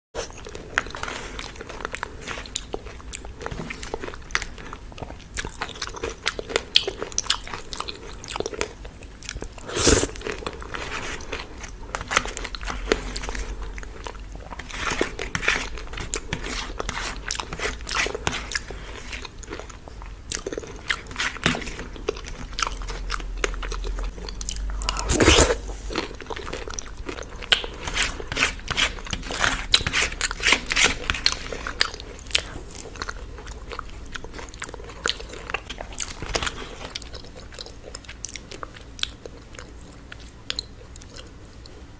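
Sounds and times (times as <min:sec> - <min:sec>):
close chewing and biting: 0:00.2 - 0:41.9.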